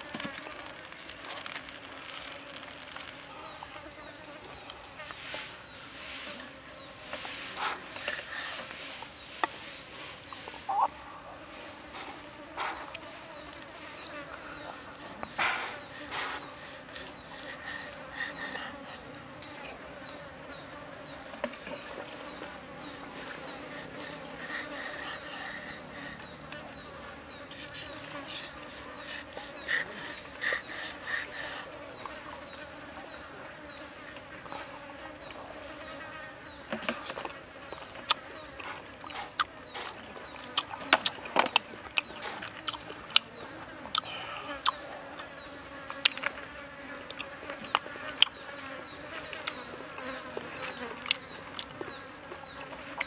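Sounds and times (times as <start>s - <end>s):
insects buzzing: 0.0s - 53.0s.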